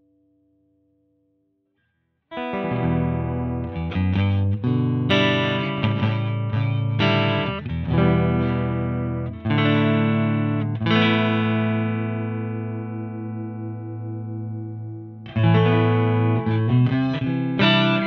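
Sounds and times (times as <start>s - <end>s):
electric guitar chords: 2.3s - 18.0s.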